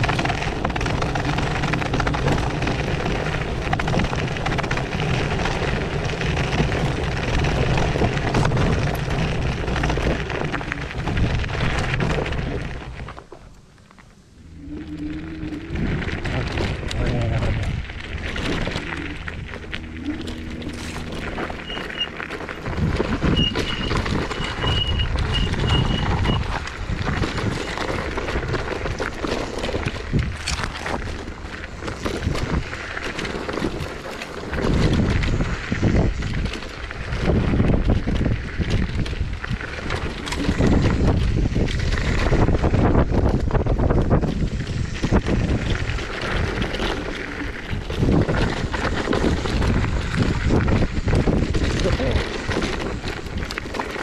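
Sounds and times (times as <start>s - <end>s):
wind buffeting microphone: 0.0s - 13.2s, 14.3s - 54.0s
electric scooter hum: 0.0s - 54.0s
tyres rumbling over stones: 0.0s - 54.0s.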